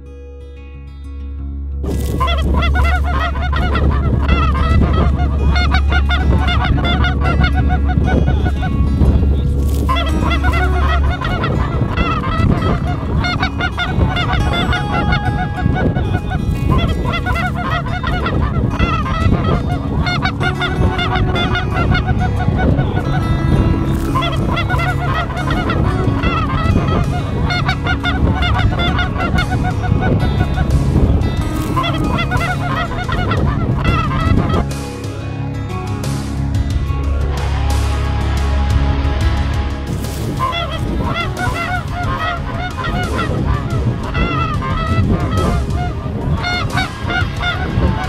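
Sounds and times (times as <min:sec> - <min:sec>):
geese honking: 0:02.0 - 0:35.6, 0:37.0 - 0:48.0.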